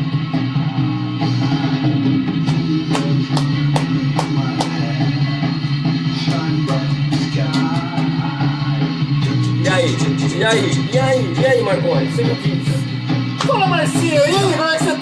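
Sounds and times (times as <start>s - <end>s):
rock music with distorted guitars: 0.0s - 15.0s.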